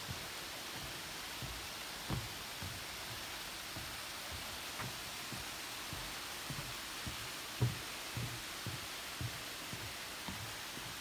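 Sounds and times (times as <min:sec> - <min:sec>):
flowing stream water: 0:00.0 - 0:11.0
walking footsteps: 0:00.0 - 0:11.0.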